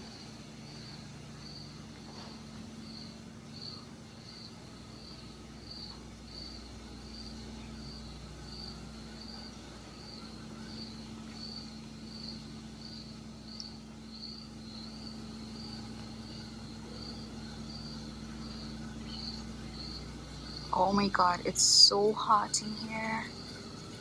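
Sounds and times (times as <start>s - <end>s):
cricket chirping: 0.0s - 24.0s
low steady hum: 0.0s - 24.0s.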